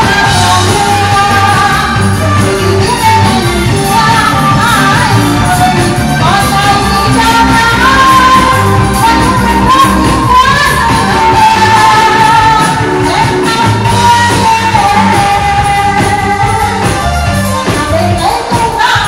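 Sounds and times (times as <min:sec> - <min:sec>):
live band dance music: 0:00.0 - 0:19.0
person singing: 0:00.0 - 0:19.0.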